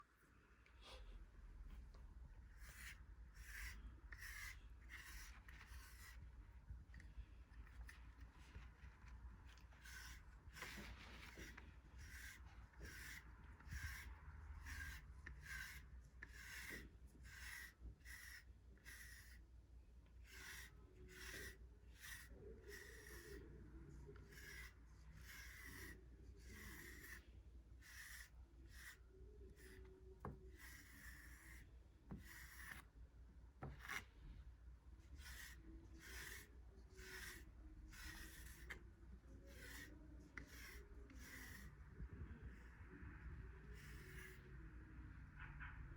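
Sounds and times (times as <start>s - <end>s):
brush rasping through cat fur: 2.4s - 19.5s, 20.1s - 33.0s, 35.0s - 42.8s, 43.4s - 44.8s.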